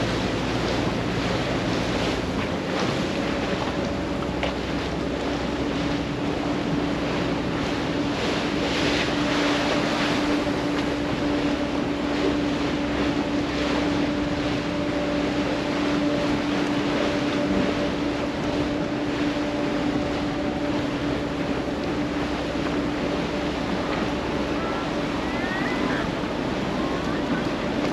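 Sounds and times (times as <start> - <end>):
motorboat engine droning: 0.0 - 27.9
water rushing along hull: 0.0 - 27.9.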